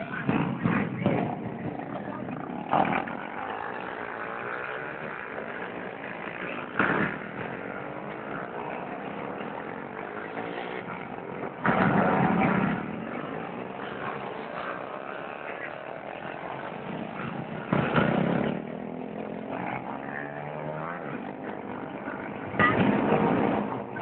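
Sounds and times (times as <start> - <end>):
small motorcycle engines revving: 0.0 - 24.0.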